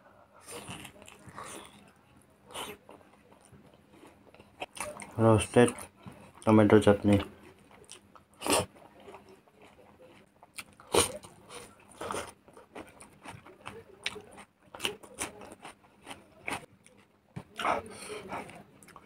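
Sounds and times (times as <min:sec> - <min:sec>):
chewing: 0:00.3 - 0:19.0.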